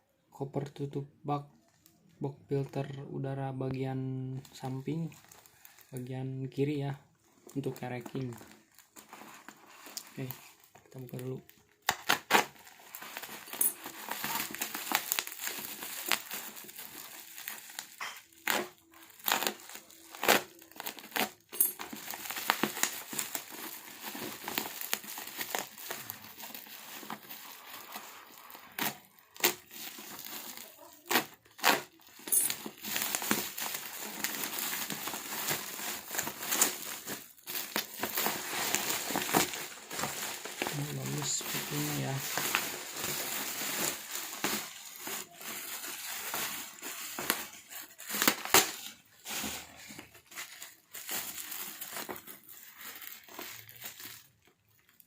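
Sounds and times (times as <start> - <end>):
packaging crinkling and rustling: 1.5 - 55.0.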